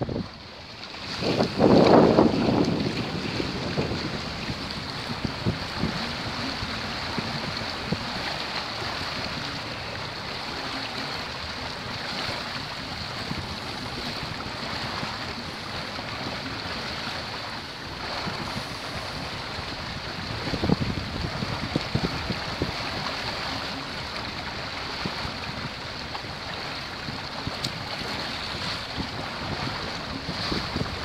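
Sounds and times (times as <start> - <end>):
water rushing along hull: 0.0 - 31.0
wind buffeting microphone: 0.0 - 31.0.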